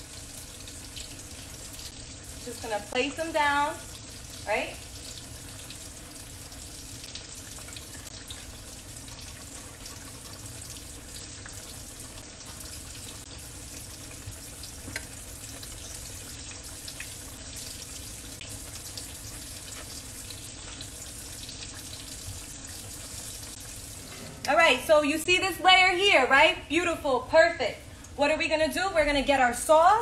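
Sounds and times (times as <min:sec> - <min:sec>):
food sizzling in oil: 0:00.0 - 0:25.2.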